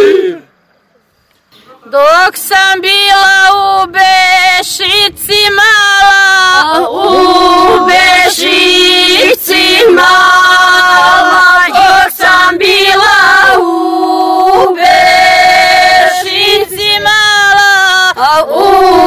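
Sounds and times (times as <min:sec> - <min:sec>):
women singing unaccompanied: 0:02.0 - 0:19.0.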